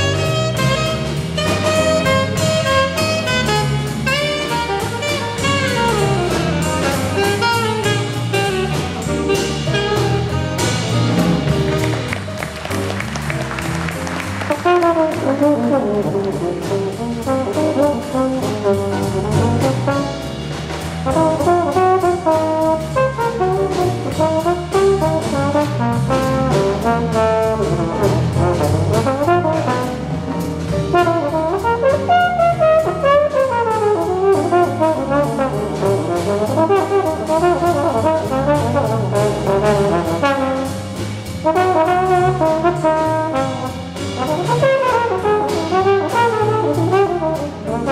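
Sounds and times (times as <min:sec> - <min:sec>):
big band rhythm section: 0:00.0 - 0:47.9
jazz trombone solo: 0:00.0 - 0:47.9.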